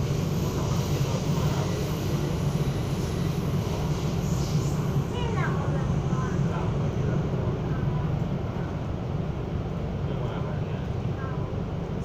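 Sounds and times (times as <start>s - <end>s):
train cabin rumble and hiss: 0.0s - 12.0s.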